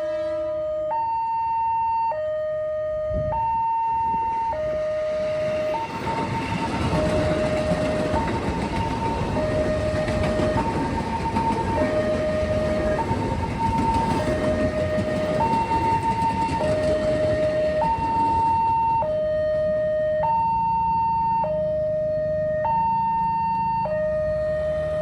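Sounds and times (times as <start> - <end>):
passing train rumbling: 0.0 - 1.4, 2.7 - 20.8, 21.7 - 25.0
two-tone warning siren: 0.0 - 25.0.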